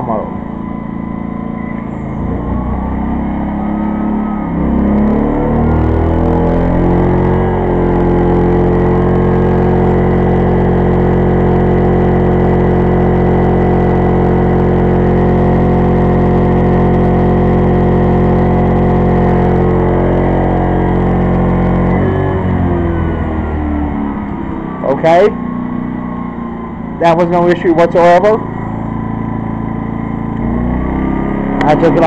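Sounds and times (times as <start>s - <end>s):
generator engine running: 0.0s - 32.0s.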